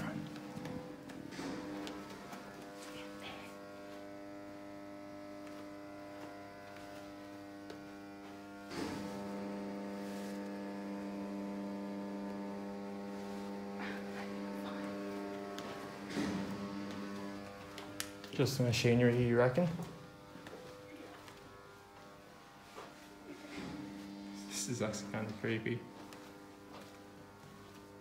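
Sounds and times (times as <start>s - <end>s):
electrical machinery hum: 0.0s - 28.0s.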